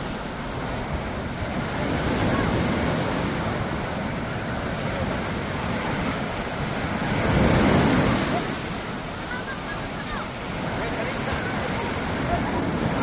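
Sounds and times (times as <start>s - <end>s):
sea waves breaking on beach: 0.0s - 13.0s.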